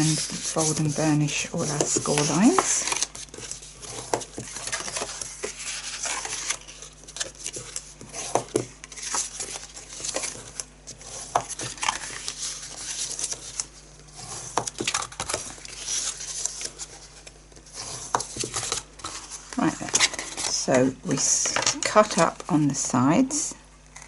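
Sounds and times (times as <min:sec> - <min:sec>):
papery rubbing and scraping: 0:00.0 - 0:20.6.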